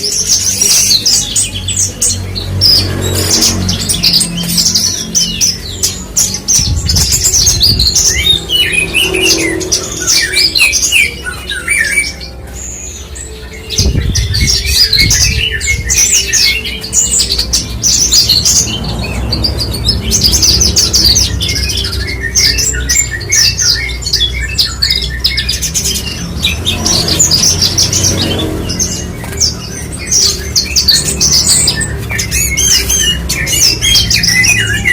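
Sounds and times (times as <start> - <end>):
lark singing chirps and trills: 0.0 - 34.9.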